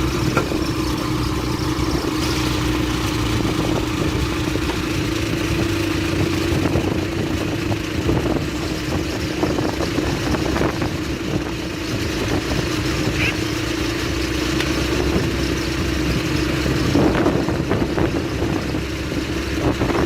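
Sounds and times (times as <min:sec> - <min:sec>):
bulldozer diesel engine running: 0:00.0 - 0:20.0
track clanks and rattles: 0:00.0 - 0:20.0.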